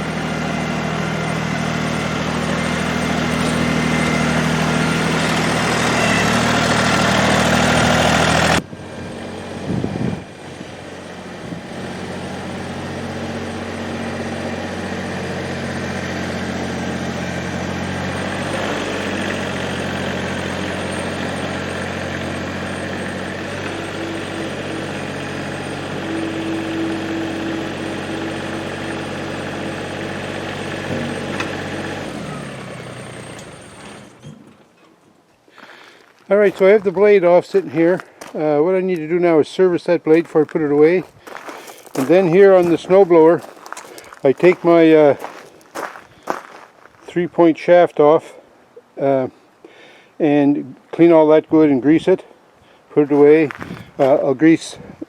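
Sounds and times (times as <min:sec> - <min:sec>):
tractor diesel engine running: 0:00.0 - 0:48.2.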